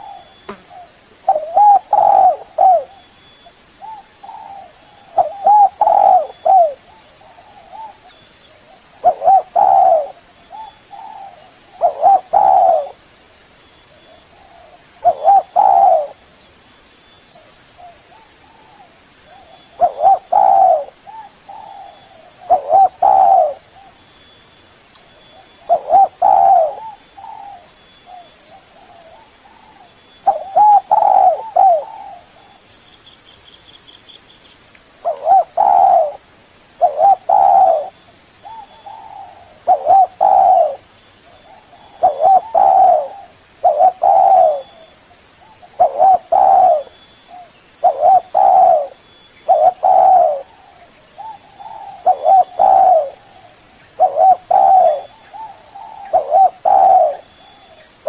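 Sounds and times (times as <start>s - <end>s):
dove cooing: 0.0s - 13.0s, 13.9s - 16.2s, 17.4s - 24.0s, 25.3s - 32.6s, 35.0s - 36.2s, 36.8s - 57.9s.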